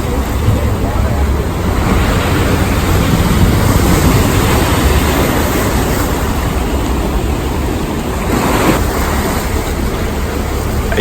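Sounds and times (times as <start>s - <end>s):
sea surf rushing: 0.0s - 11.0s
wind buffeting microphone: 0.0s - 11.0s.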